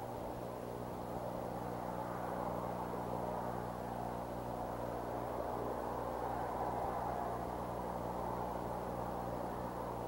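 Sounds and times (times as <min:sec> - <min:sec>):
faint electrical hum: 0:00.0 - 0:10.0
low rushing background noise: 0:00.0 - 0:10.0.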